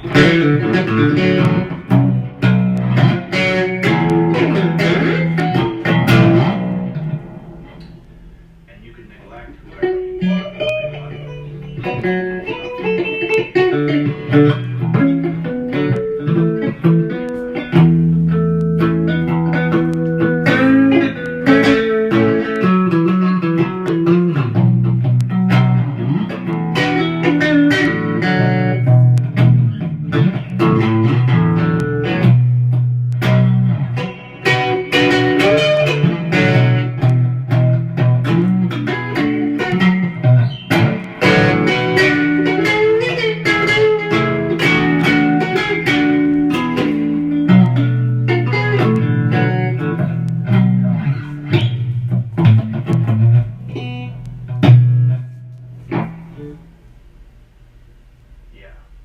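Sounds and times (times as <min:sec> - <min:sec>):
guitar playing blues riff: 0:00.0 - 0:57.2.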